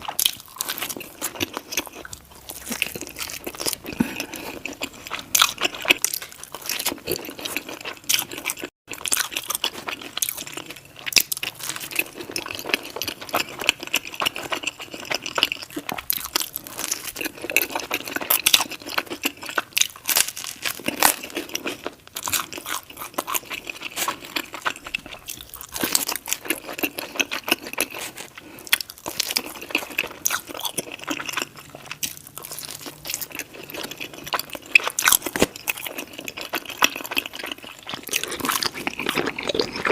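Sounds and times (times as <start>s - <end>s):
crunchy bites and chewing of pizza: 0.0s - 39.9s.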